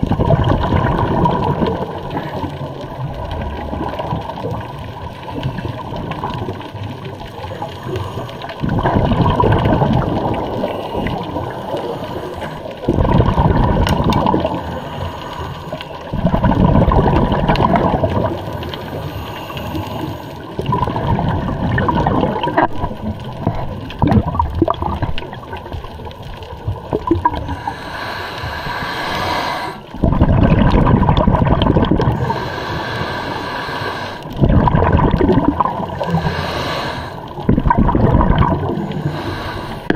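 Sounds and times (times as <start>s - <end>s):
regulator bubbling underwater: 0.0s - 39.9s
water noise: 0.0s - 39.9s.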